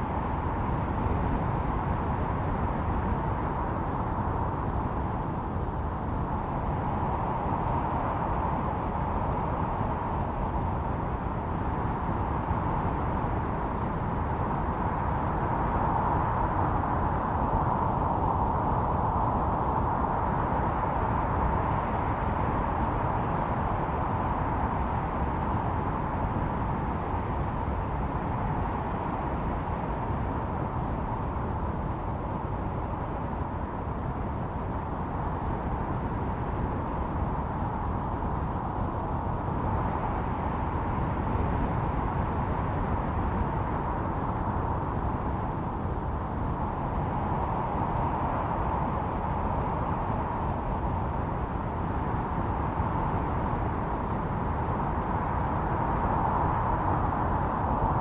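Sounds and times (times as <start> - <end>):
howling blizzard wind: 0.0 - 58.0.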